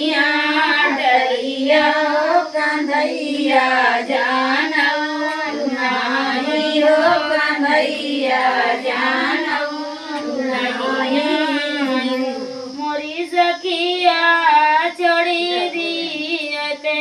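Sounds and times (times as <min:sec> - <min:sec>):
women singing folk song: 0:00.0 - 0:17.0.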